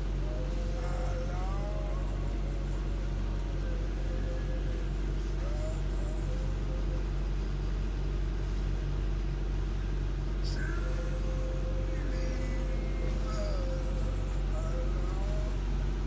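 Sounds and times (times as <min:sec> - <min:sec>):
faint gliding high tones: 0:00.0 - 0:07.8, 0:10.5 - 0:16.0
boat engine droning: 0:00.0 - 0:16.0.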